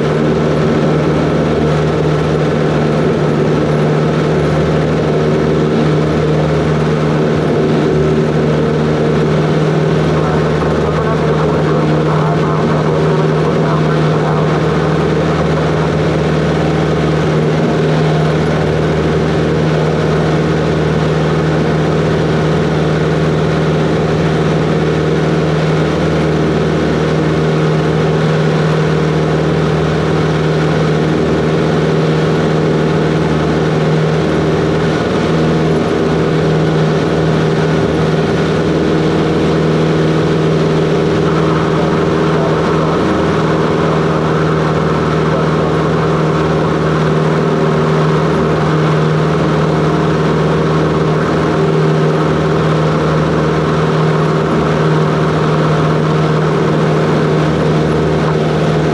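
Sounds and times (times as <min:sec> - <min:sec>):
propeller plane engine drone: 0:00.0 - 0:58.9.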